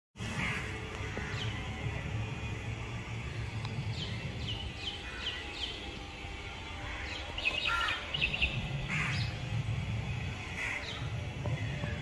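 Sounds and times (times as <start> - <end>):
sparrows chirping: 0.3 - 2.6, 3.7 - 12.0.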